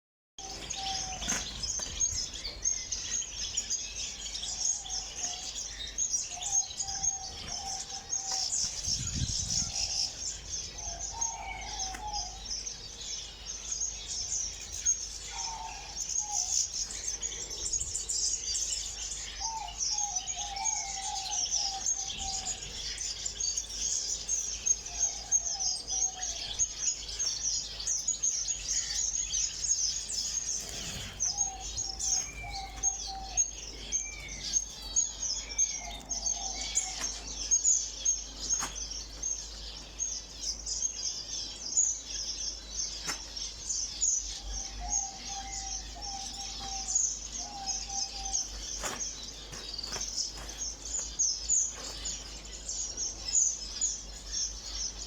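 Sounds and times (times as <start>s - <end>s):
flock of birds chirping: 0.4s - 55.0s.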